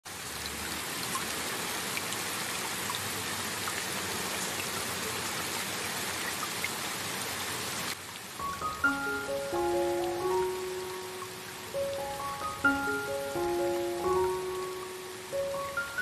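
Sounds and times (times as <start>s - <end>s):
steady rain hiss: 0.1s - 16.0s.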